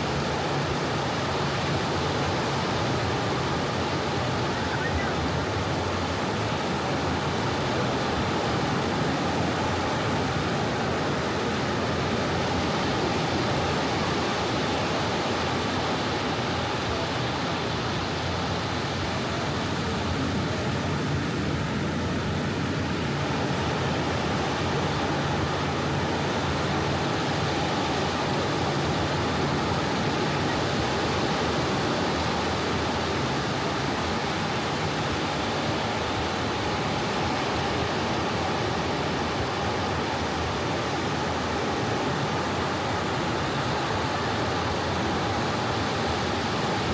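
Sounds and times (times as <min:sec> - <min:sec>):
soft sea waves on beach: 0:00.0 - 0:46.9.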